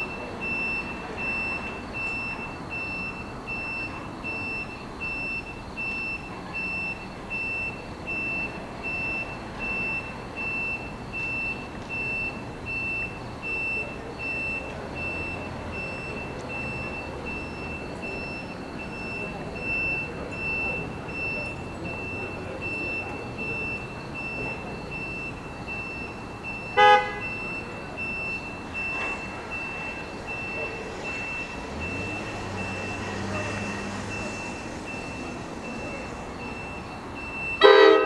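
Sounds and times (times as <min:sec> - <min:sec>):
high electronic beeps: 0:00.0 - 0:37.6.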